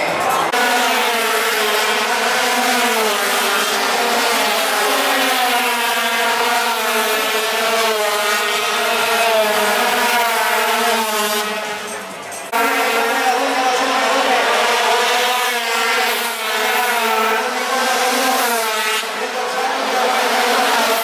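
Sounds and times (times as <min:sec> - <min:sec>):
racing motorcycles passing: 0:00.0 - 0:21.0.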